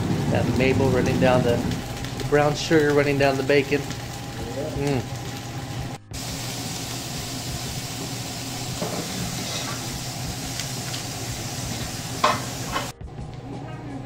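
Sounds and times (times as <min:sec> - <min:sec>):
patty sizzling on griddle: 0:00.0 - 0:12.9.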